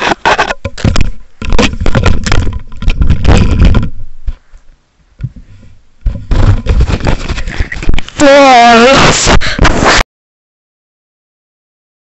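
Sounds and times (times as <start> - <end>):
microphone handling noise: 0.0 - 10.0.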